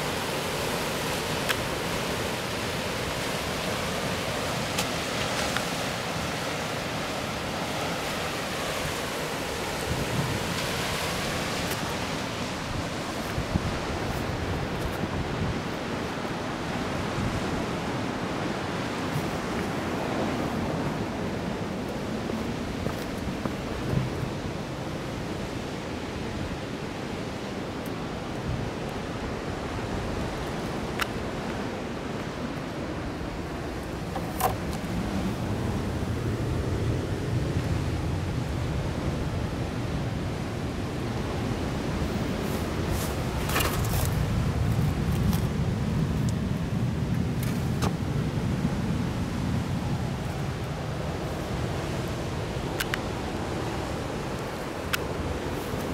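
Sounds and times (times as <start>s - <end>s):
surf on rocky shore: 0.0s - 55.9s
wind: 0.0s - 55.9s.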